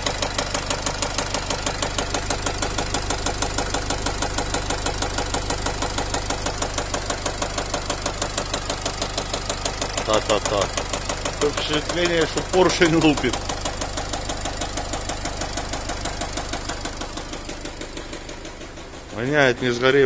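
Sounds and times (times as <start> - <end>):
diesel engine running: 0.0 - 20.0
loud engine knock: 0.0 - 20.0.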